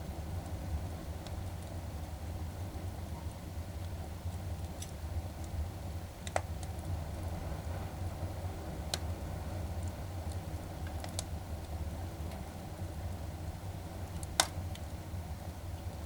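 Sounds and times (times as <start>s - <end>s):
log fire crackling: 0.0s - 16.0s
low fire rumble: 0.0s - 16.0s.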